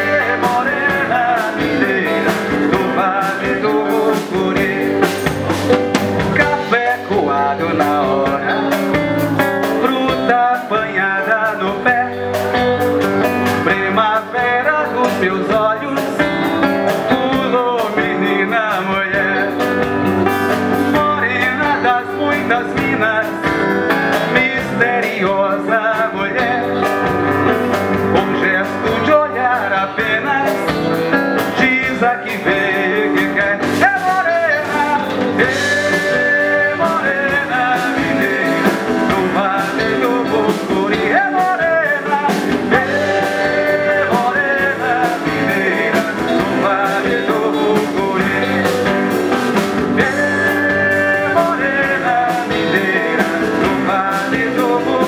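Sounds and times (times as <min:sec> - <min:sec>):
acoustic guitar: 0:00.0 - 0:55.0
electric bass: 0:00.0 - 0:55.0
live band playing: 0:00.0 - 0:55.0
man singing: 0:00.0 - 0:55.0.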